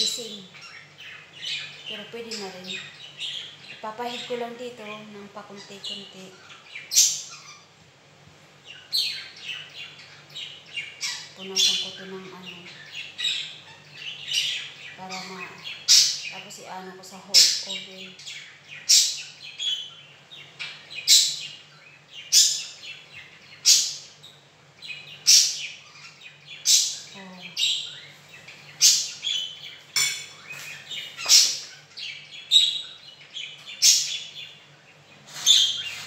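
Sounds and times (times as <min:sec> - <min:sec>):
bird chirping: 0:00.0 - 0:07.9, 0:08.5 - 0:36.0
faint low hum: 0:00.0 - 0:36.0.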